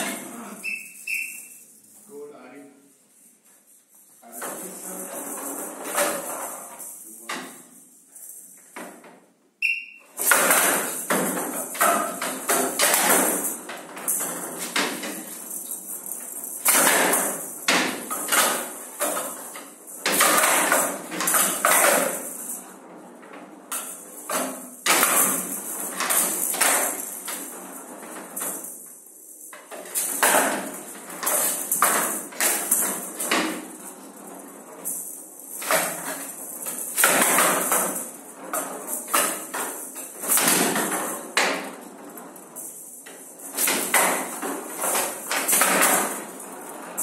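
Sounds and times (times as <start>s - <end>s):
metal pellets rattling in rolling ball: 0.0s - 2.0s, 3.2s - 8.8s, 10.1s - 47.0s.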